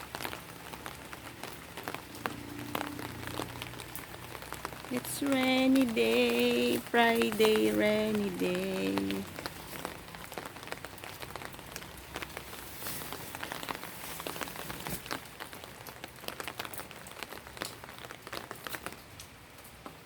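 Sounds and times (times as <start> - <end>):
rain pattering on a surface: 0.0 - 20.0.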